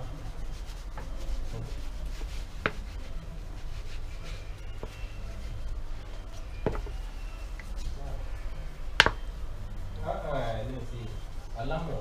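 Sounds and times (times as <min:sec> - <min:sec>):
steady low hum: 0:00.0 - 0:12.0
tissue rubbing on glass screen: 0:00.0 - 0:12.0.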